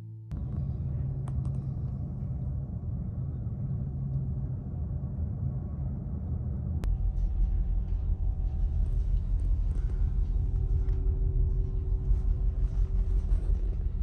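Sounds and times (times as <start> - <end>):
engine rumble: 0.3 - 14.0.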